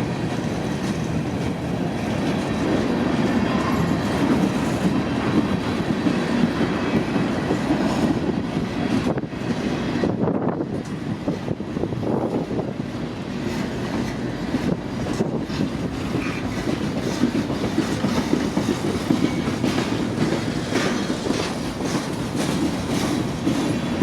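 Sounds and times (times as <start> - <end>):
wheels clacking over rail joints: 0.0 - 9.8, 12.9 - 24.0
freight train rumbling past: 0.0 - 24.0.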